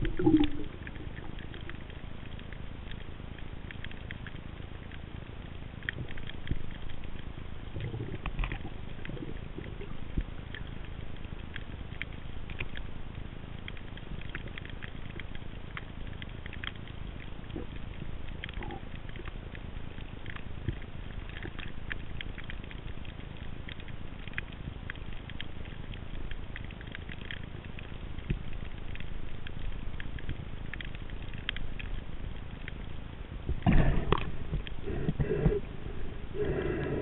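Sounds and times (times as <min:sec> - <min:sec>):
faint clicks and crackles: 0:00.0 - 0:37.0
low underwater rumble: 0:00.0 - 0:37.0.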